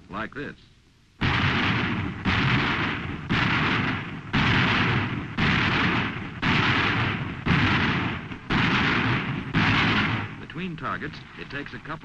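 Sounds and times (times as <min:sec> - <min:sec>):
rapid-fire naval gun firing: 0:01.2 - 0:12.0.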